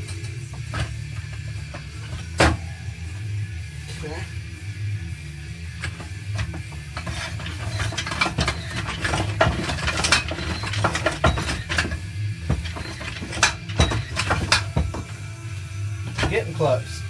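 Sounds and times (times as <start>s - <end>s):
steel transmission parts clinking: 0.0s - 3.0s, 5.7s - 17.0s.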